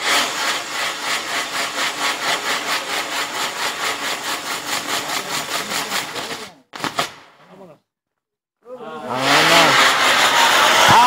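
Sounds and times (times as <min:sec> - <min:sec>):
fireworks pulsing rushing hiss: 0:00.0 - 0:07.7, 0:09.4 - 0:11.0.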